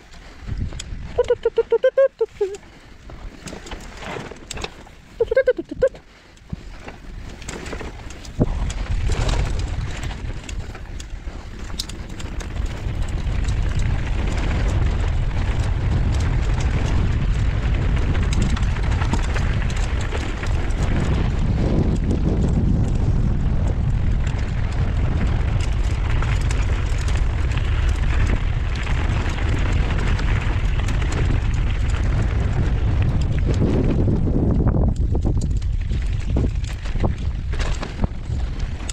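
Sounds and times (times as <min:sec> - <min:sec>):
bike tyres rumbling on gravel: 0:00.0 - 0:01.3, 0:02.3 - 0:38.9
wind buffeting microphone: 0:00.0 - 0:38.9.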